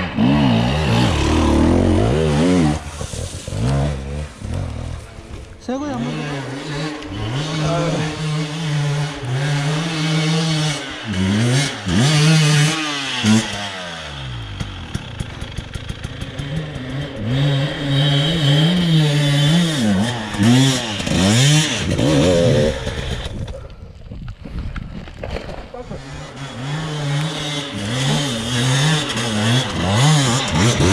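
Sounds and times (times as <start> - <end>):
engine rattling: 0.0 - 23.7, 25.7 - 30.9
motorcycle engine revving: 0.0 - 23.7, 25.6 - 30.9.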